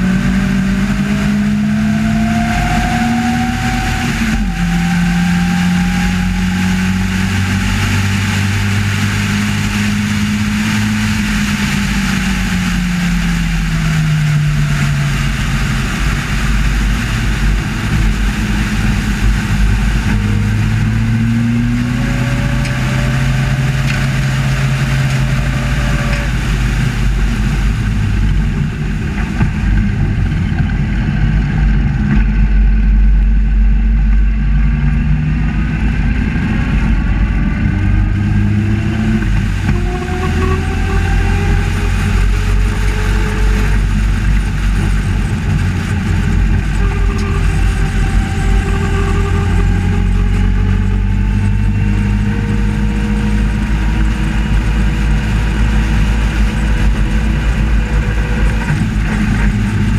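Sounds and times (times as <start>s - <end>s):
racing car engine: 0.0s - 59.9s
wind and road noise: 0.0s - 59.9s.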